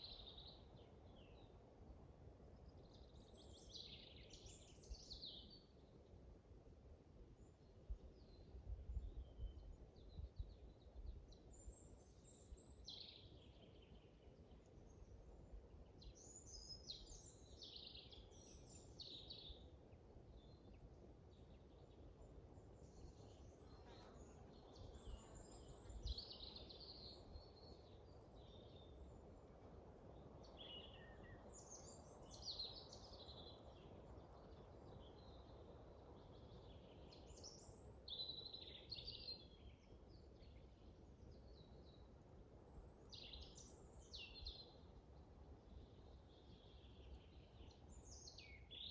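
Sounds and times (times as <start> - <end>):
songbirds chirping: 7.4 - 48.9.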